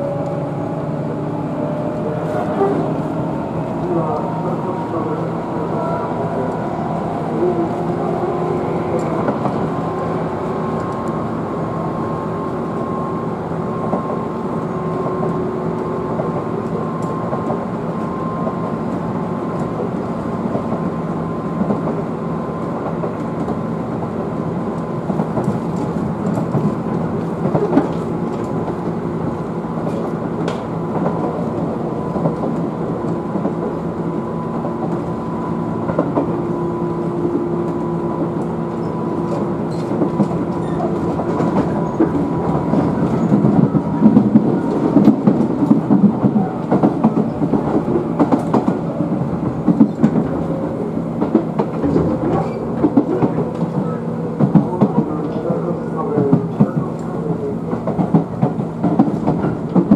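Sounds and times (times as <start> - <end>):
train wheels and motors rumbling: 0.0 - 59.9.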